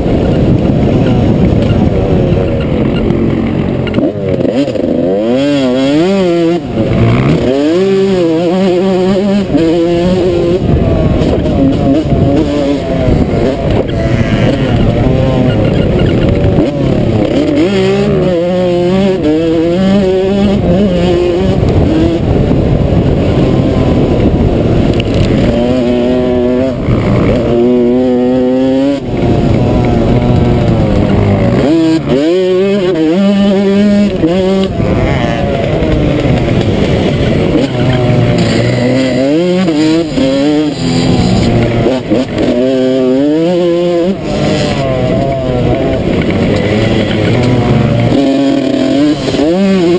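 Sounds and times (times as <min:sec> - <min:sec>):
dirt bike engine revving: 0:00.0 - 0:49.9
wind noise: 0:00.0 - 0:49.9.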